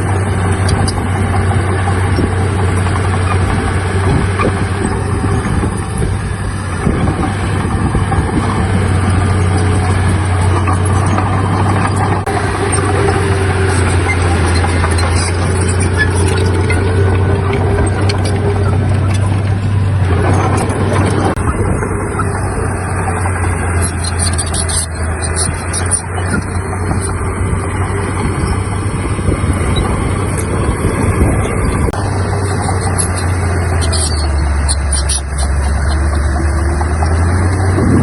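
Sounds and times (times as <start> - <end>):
diesel earthmoving machinery running: 0.0 - 38.0.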